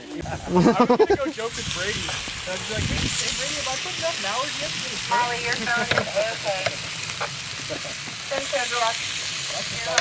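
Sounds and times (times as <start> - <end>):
steaks sizzling on a grill: 0.0 - 10.0.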